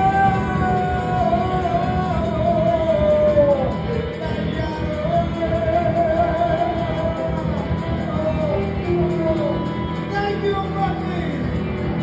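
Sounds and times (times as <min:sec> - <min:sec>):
live rock band playing: 0:00.0 - 0:12.0
wavering melody line: 0:00.0 - 0:12.0.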